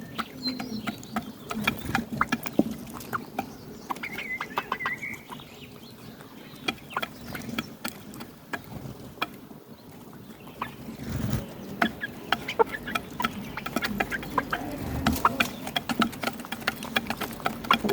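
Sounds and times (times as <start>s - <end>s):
hens clucking softly: 0.0s - 17.9s.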